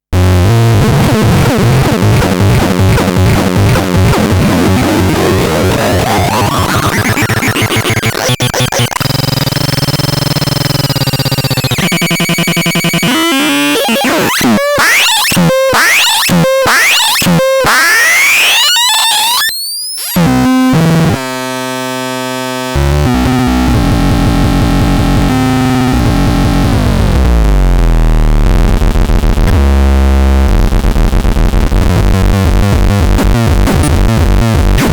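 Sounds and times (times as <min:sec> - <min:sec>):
glitchy synthesizer tones: 0:00.2 - 0:34.9.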